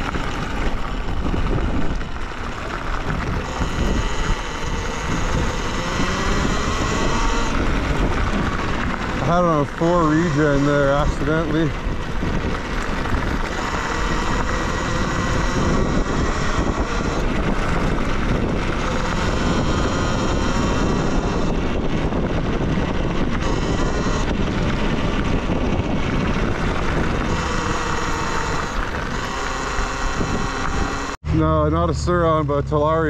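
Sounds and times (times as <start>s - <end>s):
electric motor whine: 0.0s - 31.5s
wind rush over microphone: 0.0s - 32.9s
tyre noise: 0.0s - 33.0s.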